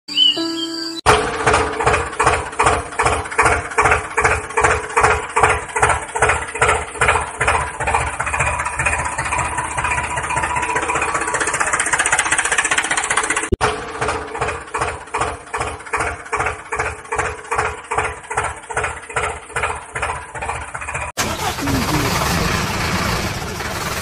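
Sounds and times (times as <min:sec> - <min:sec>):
tractor engine chugging: 0:01.1 - 0:24.0.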